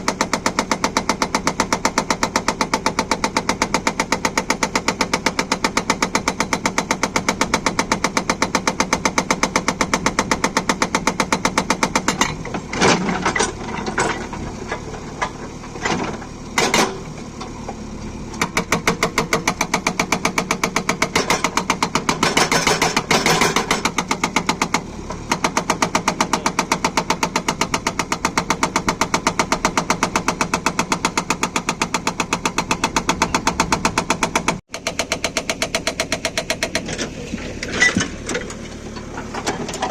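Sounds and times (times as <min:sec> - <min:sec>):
hydraulic breaker hammering: 0:00.0 - 0:39.9.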